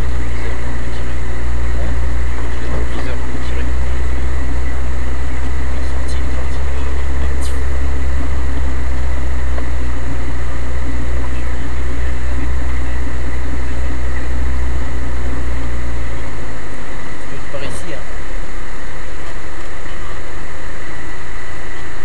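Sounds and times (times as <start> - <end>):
low engine drone in cabin: 0.0 - 22.0.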